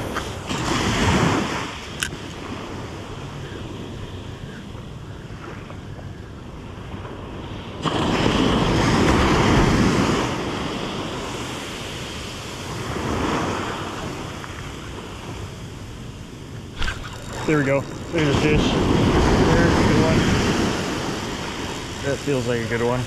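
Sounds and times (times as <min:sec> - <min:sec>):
ocean surf washing up beach: 0:00.0 - 0:04.7, 0:06.6 - 0:23.0.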